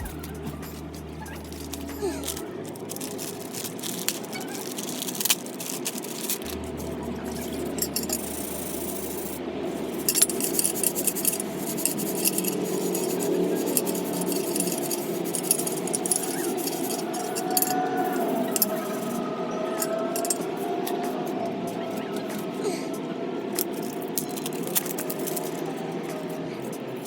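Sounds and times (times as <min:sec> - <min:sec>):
metal muffler clinking and rubbing: 0:00.0 - 0:21.6, 0:23.6 - 0:27.0.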